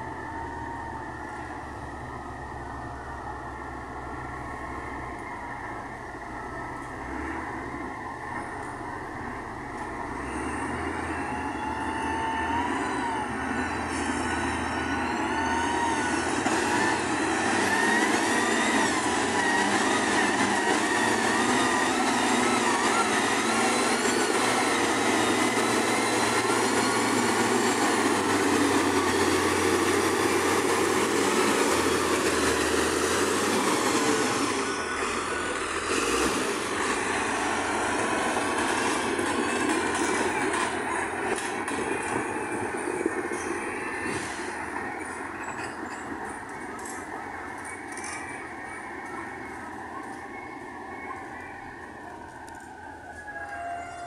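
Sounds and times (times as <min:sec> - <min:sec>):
grader diesel engine running: 0:00.0 - 0:54.0
high squeals: 0:10.0 - 0:54.0.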